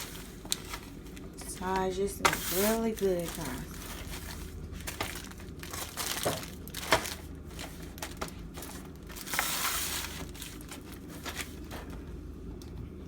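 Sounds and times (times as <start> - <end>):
crinkling: 0.0 - 12.1.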